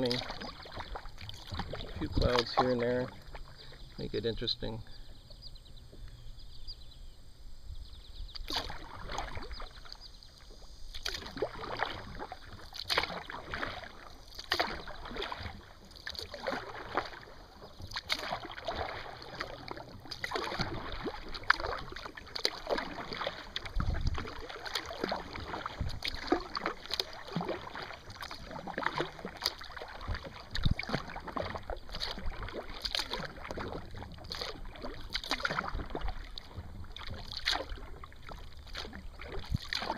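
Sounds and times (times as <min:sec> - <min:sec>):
kayak paddle splashing in water: 0:00.0 - 0:04.8, 0:08.3 - 0:39.9
water running off paddle: 0:00.0 - 0:05.0, 0:08.3 - 0:39.9.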